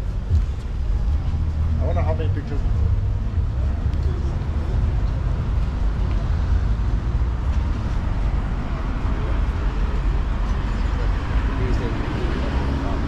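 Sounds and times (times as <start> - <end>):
faint voices: 0.0 - 13.0
road traffic rumble: 0.0 - 13.0.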